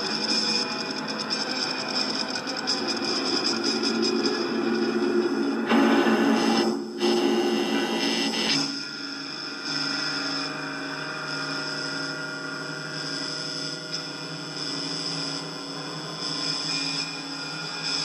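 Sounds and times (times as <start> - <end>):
electronic drone: 0.0 - 18.0.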